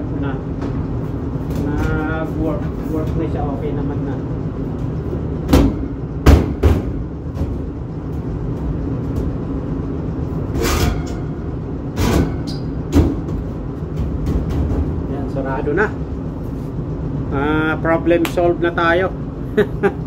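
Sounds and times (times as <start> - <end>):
furnace humming: 0.0 - 20.0.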